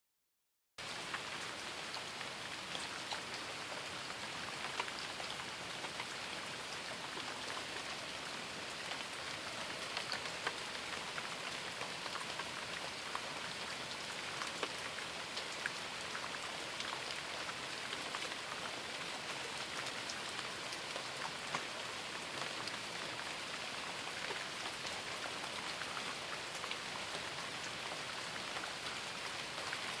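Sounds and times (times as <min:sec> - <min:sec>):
raindrops ticking close by: 0:00.8 - 0:30.0
steady rain hiss: 0:00.8 - 0:30.0.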